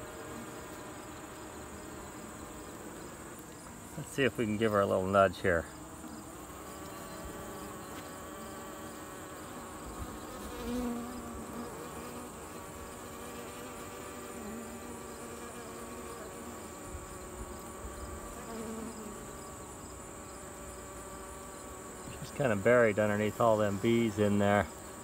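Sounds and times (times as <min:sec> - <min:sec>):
bee colony humming: 0:00.0 - 0:25.0
single bees buzzing past: 0:00.0 - 0:25.0.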